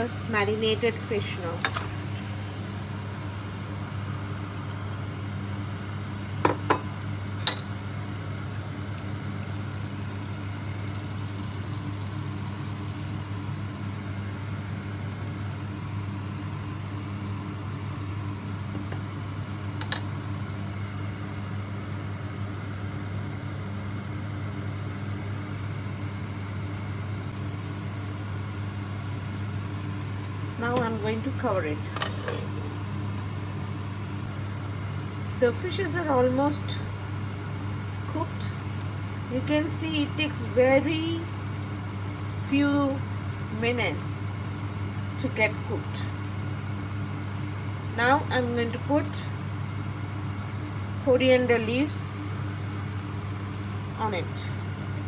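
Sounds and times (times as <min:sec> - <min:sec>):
fish sizzling in a pan: 0:00.0 - 0:55.0.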